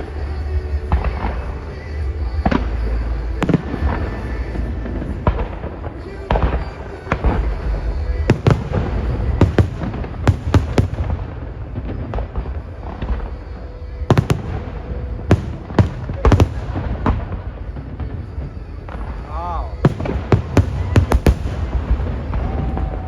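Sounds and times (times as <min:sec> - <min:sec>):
low rumble of fireworks: 0:00.0 - 0:23.0
fireworks bangs: 0:03.4 - 0:23.0.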